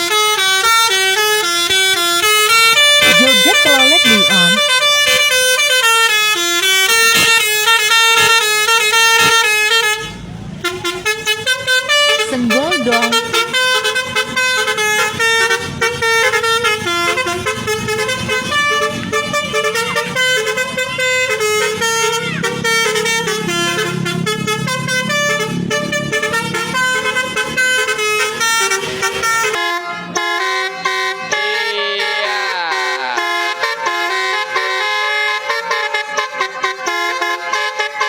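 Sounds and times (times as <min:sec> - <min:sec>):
multi-tone musical bus horn: 0:00.0 - 0:38.0.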